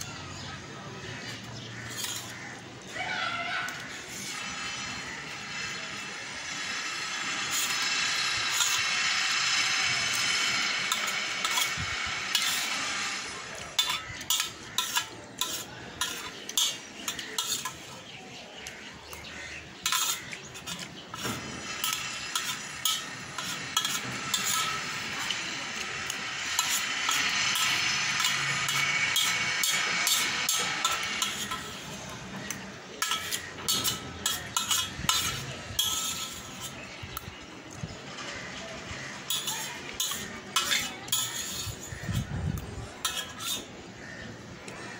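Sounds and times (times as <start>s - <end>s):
spoon scraping metal plate: 1.2s - 2.6s, 3.7s - 37.4s, 38.2s - 44.3s.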